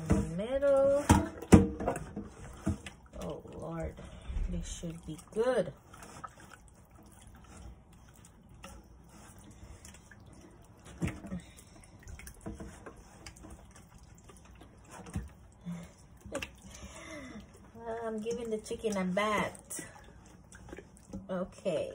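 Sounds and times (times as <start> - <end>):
liquid dripping: 0.2 - 21.9
wet squishing of hands: 2.3 - 21.4.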